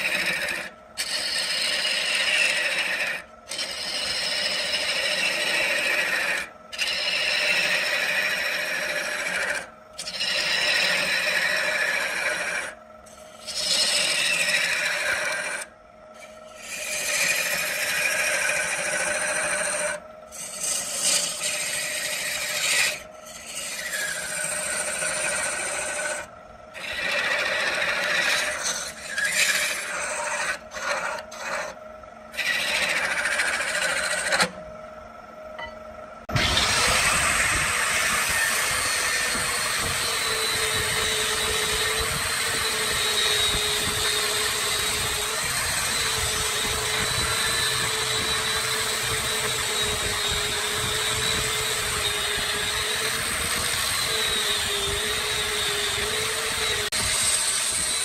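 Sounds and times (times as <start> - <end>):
tool rasping on wood lathe: 0.0 - 34.6, 36.3 - 58.0
lathe humming: 0.0 - 58.0.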